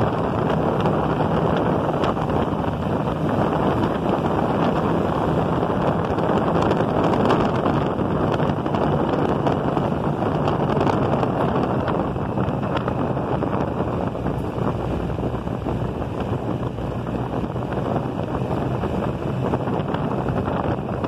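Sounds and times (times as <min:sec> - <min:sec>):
motorcycle engine running: 0:00.0 - 0:21.0
wind rushing over microphone: 0:00.0 - 0:21.0.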